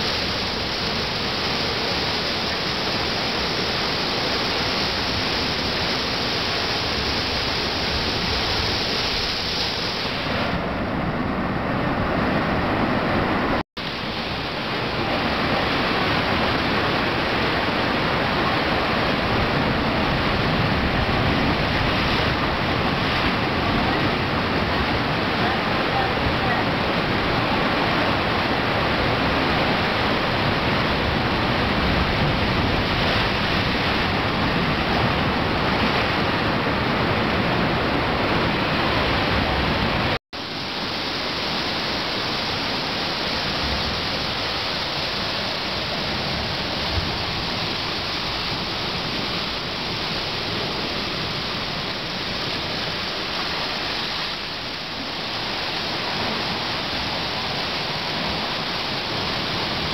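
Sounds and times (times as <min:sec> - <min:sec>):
surf surging over rocks: 0:00.0 - 0:59.9.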